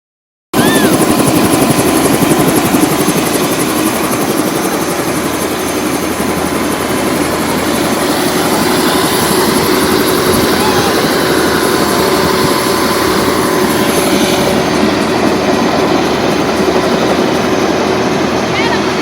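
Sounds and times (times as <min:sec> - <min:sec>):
helicopter rotor and engine: 0:00.6 - 0:19.0.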